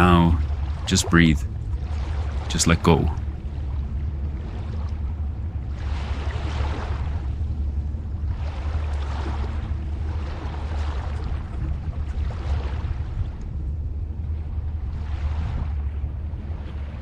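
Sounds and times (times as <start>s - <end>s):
deep rumble: 0.0s - 17.0s
ocean waves washing ashore: 0.0s - 17.0s.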